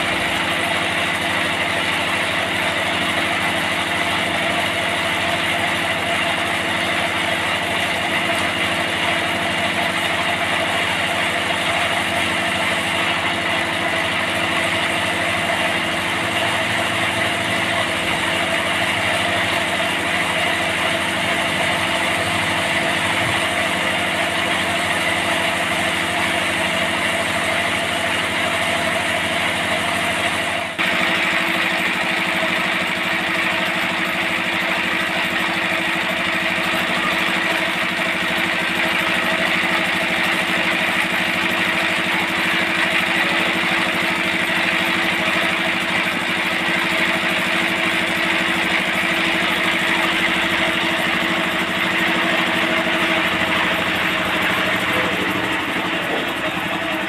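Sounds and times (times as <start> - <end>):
forklift engine running: 0.0 - 57.0.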